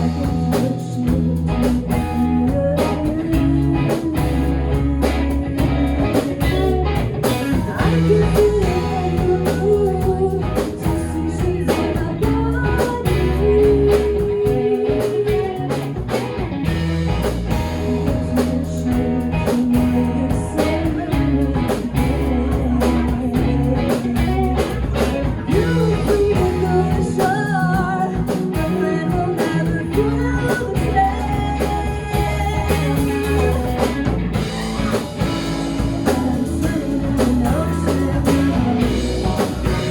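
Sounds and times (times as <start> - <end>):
live blues rock band: 0.0 - 39.9
person singing: 0.0 - 39.9.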